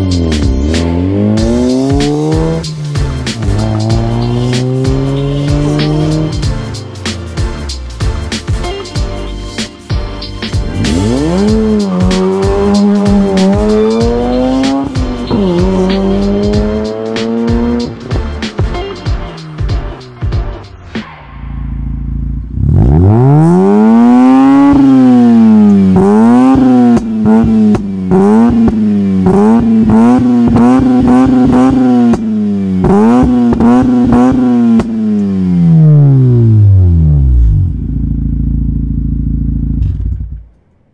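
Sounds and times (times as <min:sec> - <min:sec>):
music with steady beat: 0:00.0 - 0:21.9, 0:22.9 - 0:36.2
rotary engine revving: 0:00.2 - 0:06.7, 0:10.7 - 0:18.2, 0:21.6 - 0:40.5.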